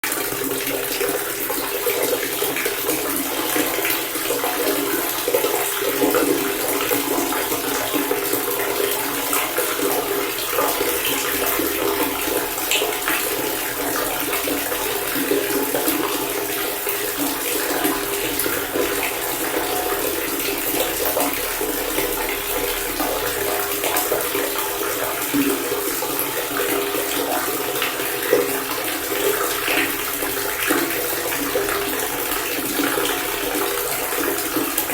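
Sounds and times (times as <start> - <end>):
water pouring from a faucet: 0.0 - 34.9.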